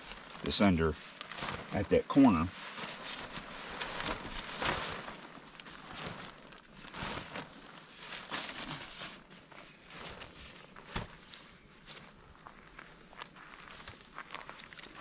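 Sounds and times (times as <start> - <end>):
tarp rustling: 0.0 - 15.0.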